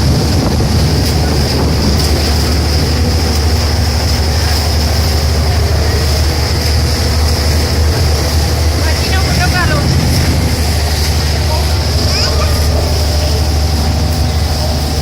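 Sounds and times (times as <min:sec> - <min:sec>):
constant high whine: 0:00.0 - 0:15.0
vehicle rumble in motion: 0:00.0 - 0:15.0.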